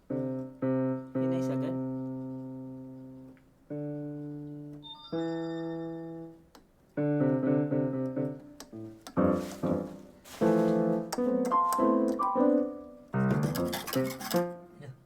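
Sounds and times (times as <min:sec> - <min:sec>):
keyboard piano notes: 0:00.0 - 0:15.0.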